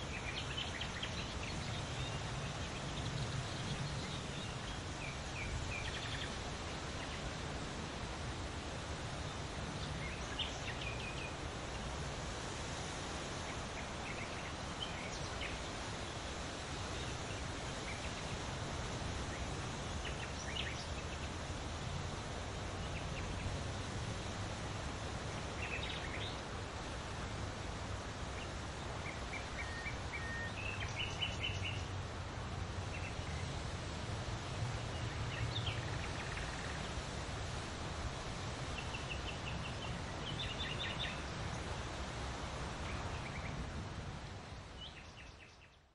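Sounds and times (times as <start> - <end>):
steady hiss and low hum: 0.0 - 45.9.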